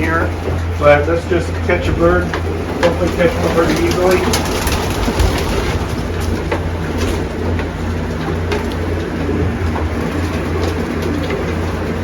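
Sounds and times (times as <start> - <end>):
pigeons cooing: 0.0 - 12.0
steady low hum: 0.0 - 12.0.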